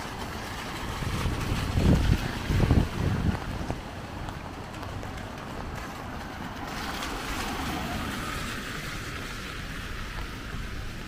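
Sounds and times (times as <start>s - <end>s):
heavy rain: 0.0s - 11.0s
tyres hissing on wet road: 0.0s - 11.0s.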